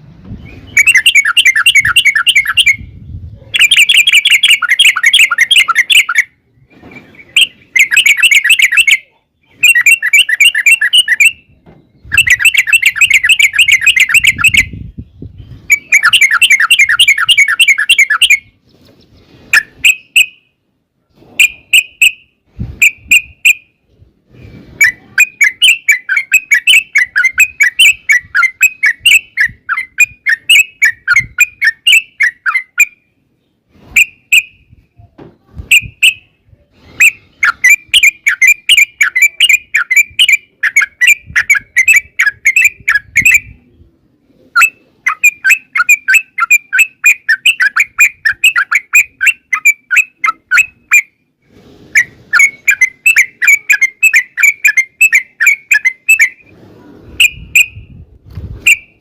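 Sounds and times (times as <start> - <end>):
bird chattering song: 0.4 - 20.5, 24.8 - 34.8, 37.0 - 43.8, 44.5 - 51.2, 52.0 - 56.5.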